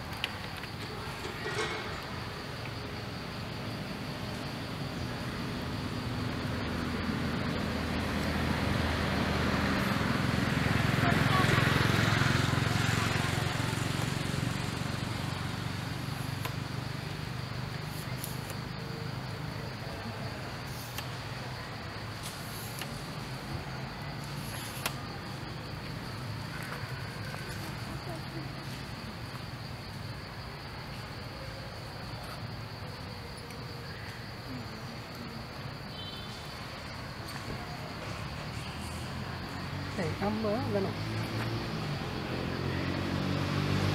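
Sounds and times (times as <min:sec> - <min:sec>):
insects buzzing: 0:00.0 - 0:43.9.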